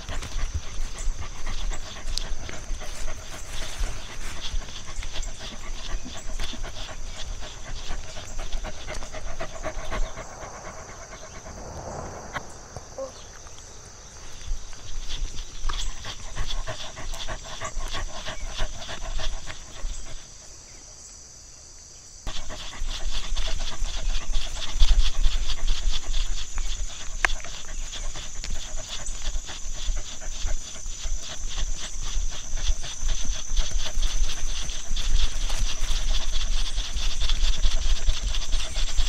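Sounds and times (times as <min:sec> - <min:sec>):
dog panting rapidly: 0:00.0 - 0:13.2, 0:14.2 - 0:20.4, 0:22.3 - 0:39.0.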